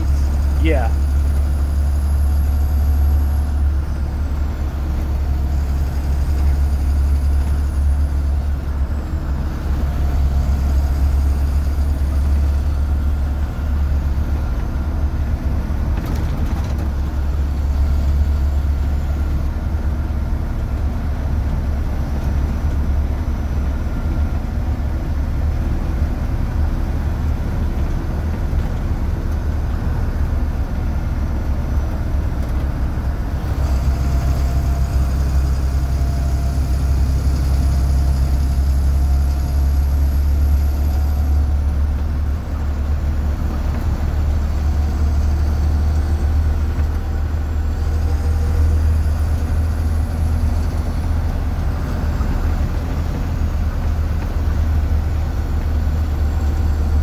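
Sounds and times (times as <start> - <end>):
diesel engine drone: 0.0 - 57.0
road noise: 0.0 - 57.0.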